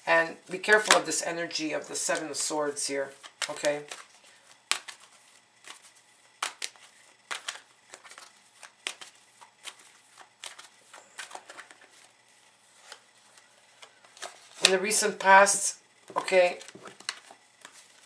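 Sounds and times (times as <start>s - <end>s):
cards being shuffled: 0.6s - 18.0s.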